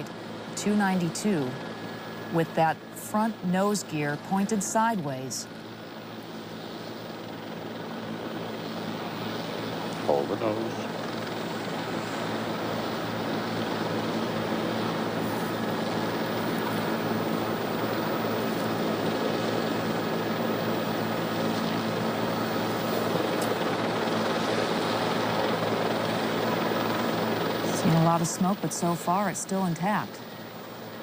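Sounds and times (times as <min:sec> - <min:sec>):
helicopter engine and rotor drone: 0:00.0 - 0:31.0.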